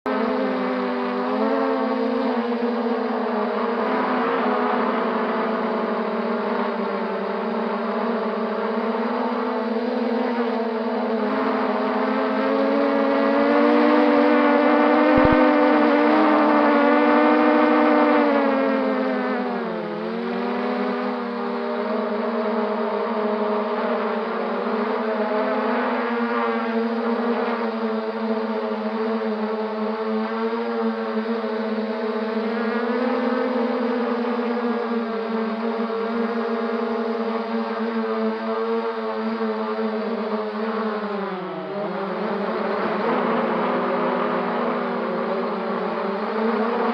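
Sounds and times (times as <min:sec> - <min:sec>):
quadcopter motors whining: 0:00.1 - 0:46.9.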